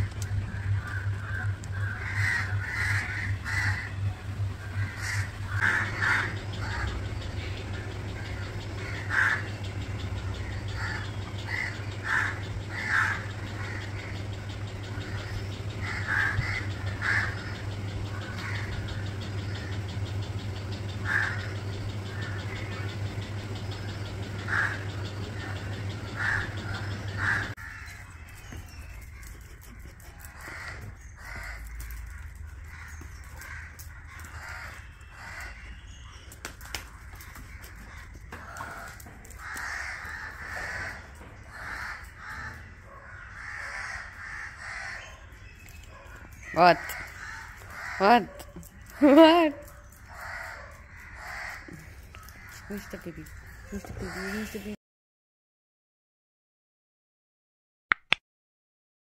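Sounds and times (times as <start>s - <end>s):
crows cawing: 0.0s - 28.5s, 29.1s - 36.0s, 36.6s - 54.6s
steady low hum: 0.0s - 54.8s.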